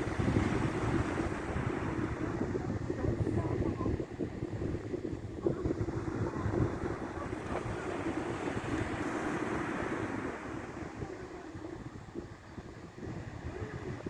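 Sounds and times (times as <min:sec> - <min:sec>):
surf washing onto beach: 0:00.0 - 0:14.0
wind rumbling on microphone: 0:00.0 - 0:14.0.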